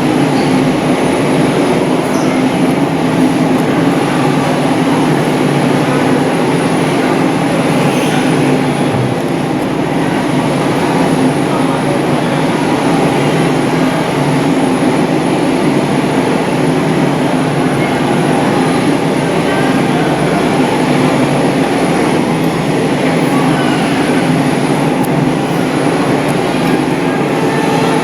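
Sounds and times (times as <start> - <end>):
jet airliner engines rumbling: 0.0 - 28.0.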